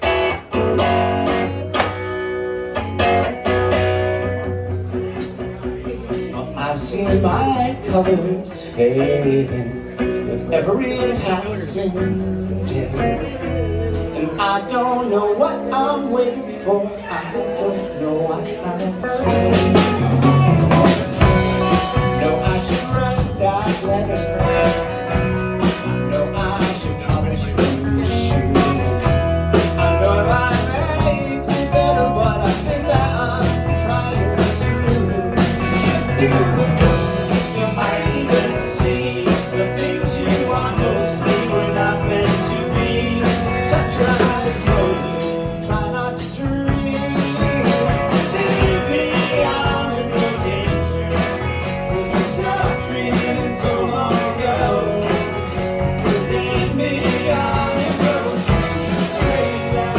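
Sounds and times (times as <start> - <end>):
drums: 0.0 - 16.1, 17.3 - 59.9
electric guitar: 0.0 - 59.9
rock band playing live: 0.0 - 59.9.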